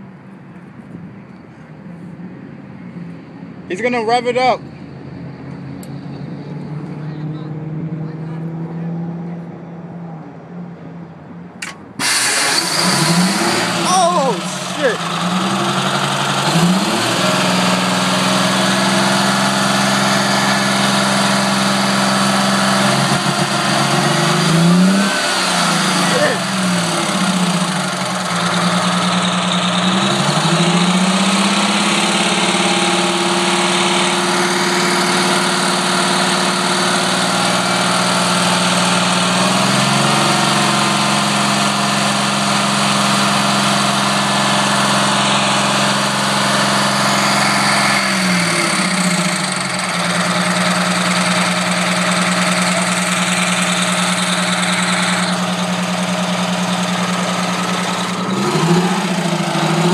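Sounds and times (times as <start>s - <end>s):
diesel bus engine revving: 11.6s - 59.9s.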